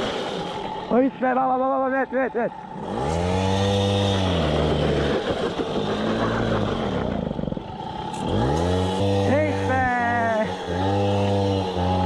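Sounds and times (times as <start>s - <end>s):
moped engine revving: 0.0s - 12.0s.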